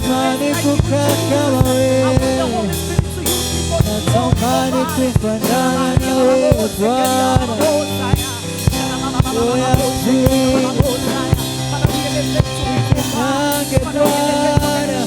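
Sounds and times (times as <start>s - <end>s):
drum kit steady beat: 0.0s - 15.0s
person singing: 0.0s - 15.0s
sustained keyboard chords: 0.0s - 15.0s.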